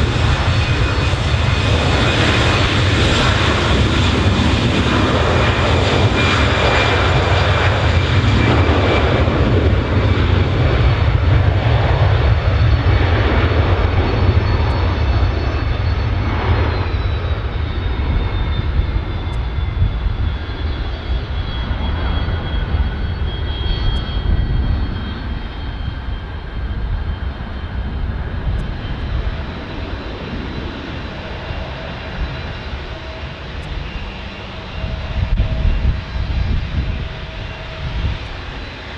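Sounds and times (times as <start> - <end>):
jet airliner roaring with whine: 0.0 - 38.9.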